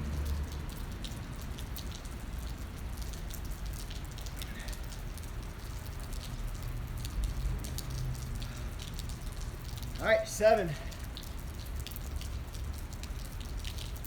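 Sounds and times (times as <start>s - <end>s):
rain falling: 0.0s - 14.0s
raindrops clicking: 0.0s - 14.0s.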